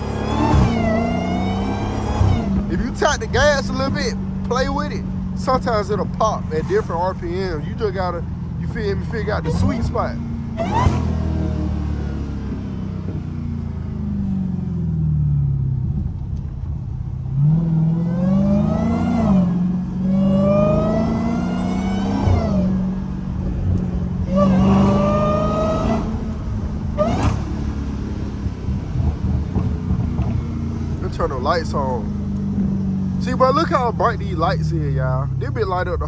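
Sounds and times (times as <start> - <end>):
car engine revving: 0.0 - 36.0
exhaust crack: 0.0 - 36.0.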